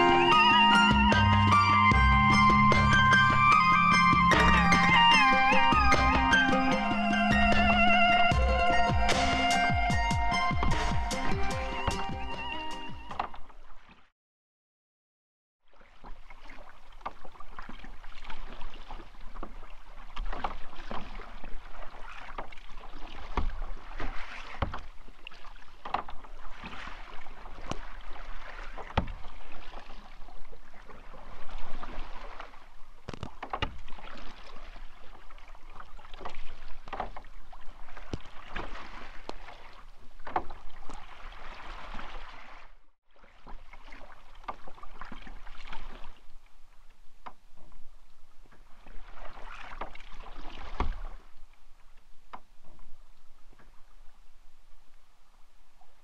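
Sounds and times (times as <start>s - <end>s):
water running off paddle: 0.0s - 14.0s, 15.7s - 47.8s, 48.5s - 54.1s
paddle splashing in water: 0.0s - 14.1s, 15.6s - 56.0s.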